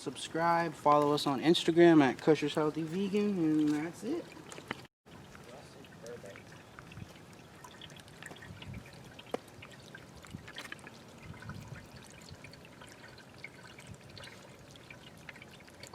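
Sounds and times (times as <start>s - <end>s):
fountain water trickling: 0.0s - 15.9s
water drips: 0.9s - 15.9s.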